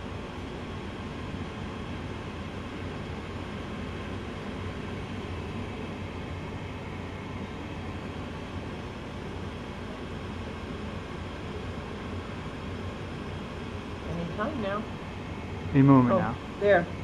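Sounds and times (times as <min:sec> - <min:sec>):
furnace rushing hum: 0:00.0 - 0:17.0.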